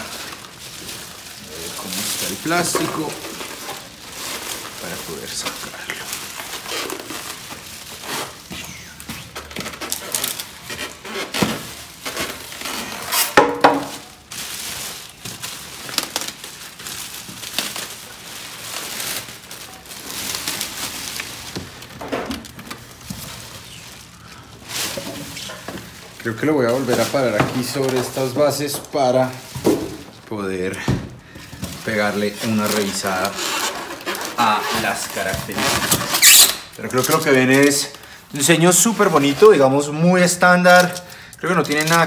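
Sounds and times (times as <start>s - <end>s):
plastic bag crinkling: 0.0s - 42.0s.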